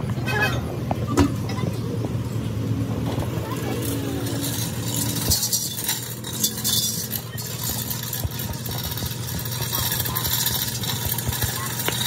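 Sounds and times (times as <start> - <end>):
outdoor street noise: 0.0 - 12.0.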